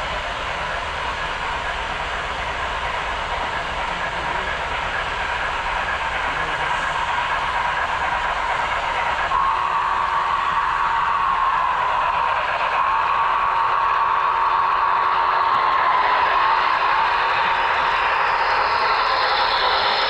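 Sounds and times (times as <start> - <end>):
model train whirring hum: 0.0 - 20.0.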